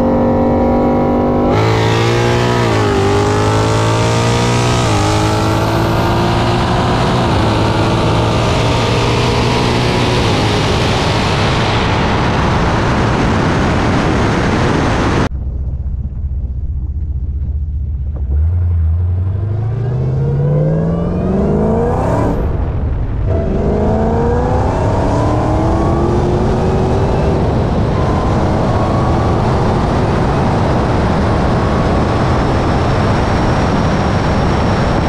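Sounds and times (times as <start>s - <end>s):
car engine accelerating: 0.0s - 35.0s
wind and road noise: 0.0s - 35.0s.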